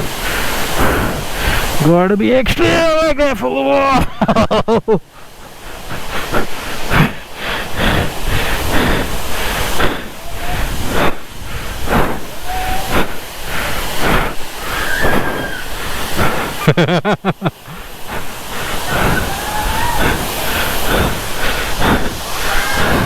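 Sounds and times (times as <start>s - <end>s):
people's voices and calls: 0.0s - 23.0s
water rushing over rocks: 0.0s - 23.0s.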